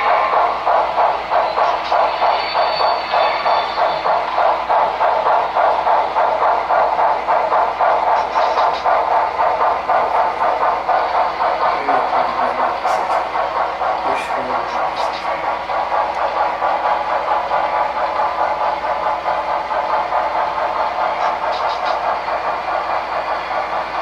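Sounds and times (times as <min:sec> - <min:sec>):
model train steam chuffs: 0:00.0 - 0:24.0.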